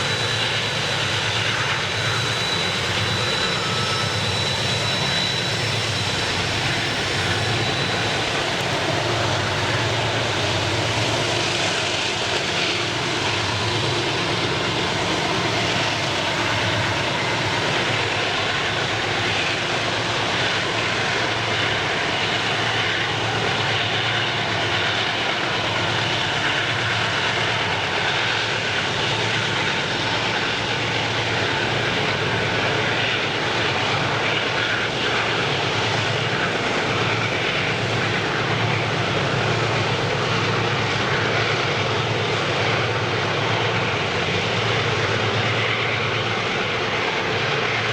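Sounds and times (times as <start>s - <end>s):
train wheels rushing on rails: 0.0s - 47.9s.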